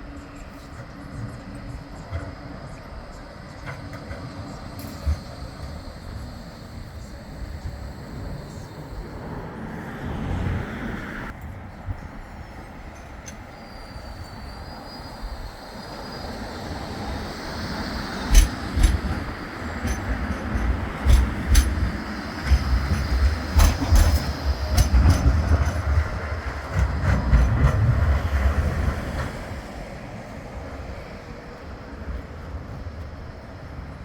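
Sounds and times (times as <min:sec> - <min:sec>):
tram rumbling on rails: 0:00.0 - 0:34.0.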